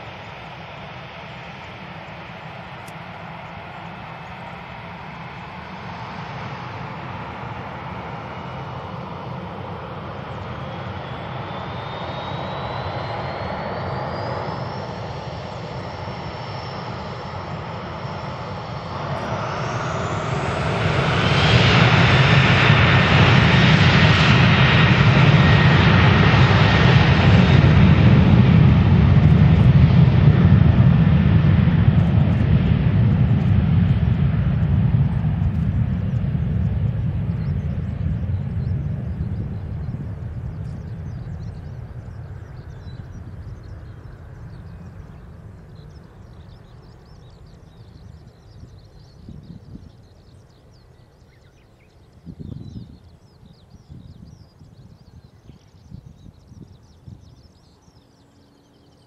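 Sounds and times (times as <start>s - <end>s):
jet engines spooling up: 0.0s - 48.7s
jet engine takeoff thrust rush: 0.0s - 59.0s.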